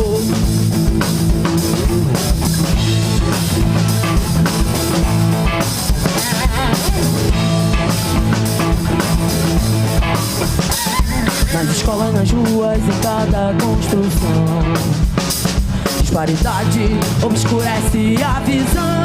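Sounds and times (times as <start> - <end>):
bass guitar: 0.0 - 19.0
drum kit beating: 0.0 - 19.0
electric guitars: 0.0 - 19.0.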